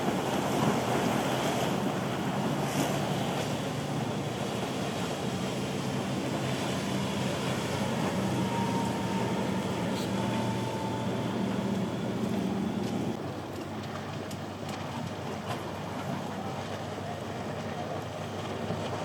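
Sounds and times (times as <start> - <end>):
boat engine drone: 0.0 - 19.0
surf: 0.0 - 19.0
wind: 0.0 - 19.0.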